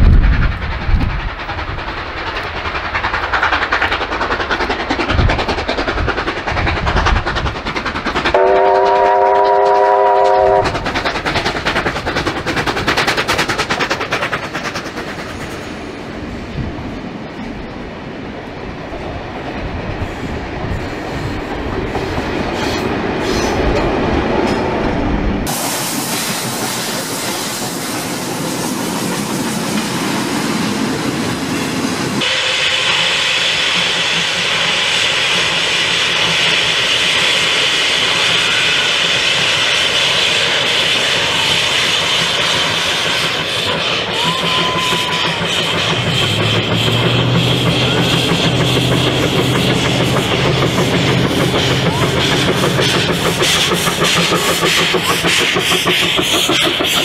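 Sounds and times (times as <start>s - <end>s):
train wheels clattering: 0.0s - 16.2s, 19.5s - 57.0s
steam locomotive rumbling: 0.0s - 57.0s.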